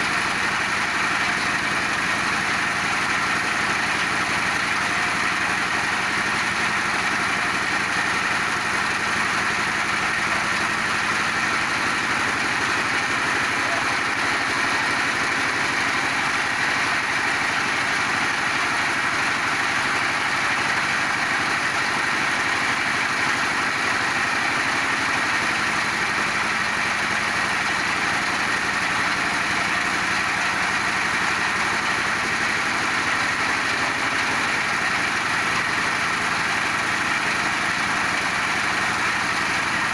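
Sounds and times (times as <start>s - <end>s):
feed grinding machine droning: 0.0s - 39.9s.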